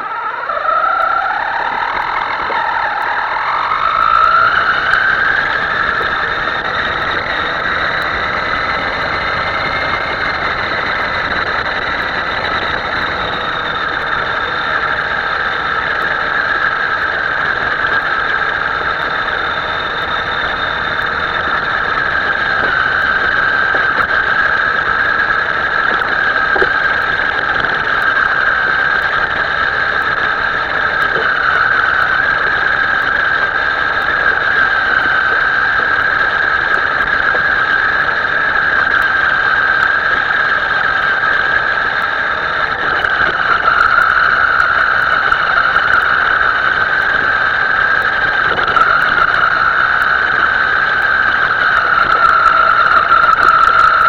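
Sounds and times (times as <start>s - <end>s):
small electric motor whining: 0.0s - 54.0s.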